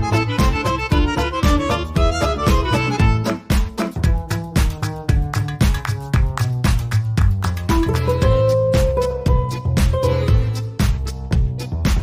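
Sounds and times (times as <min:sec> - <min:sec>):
lively fiddle tune with beat: 0:00.0 - 0:12.0.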